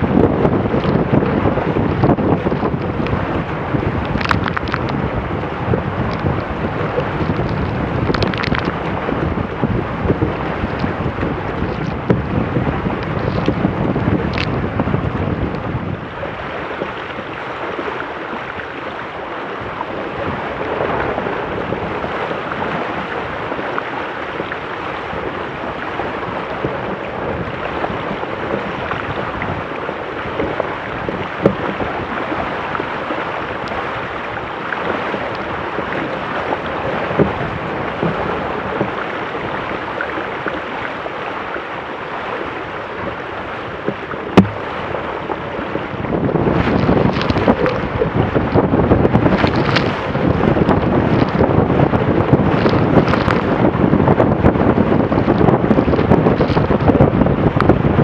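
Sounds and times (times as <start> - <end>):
water rushing and splashing: 0.0 - 58.0
wind buffeting microphone: 0.0 - 58.0.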